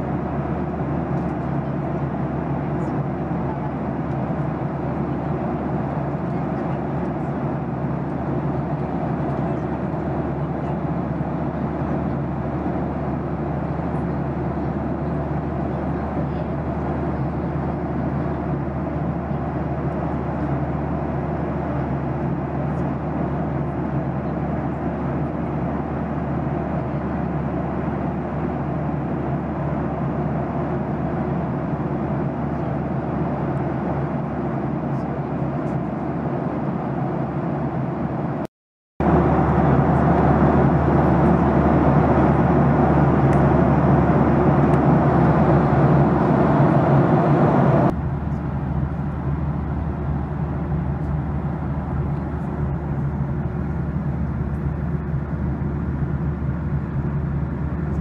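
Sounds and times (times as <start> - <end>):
airflow rush in jet cabin: 0.0 - 58.0
low engine hum: 0.0 - 58.0.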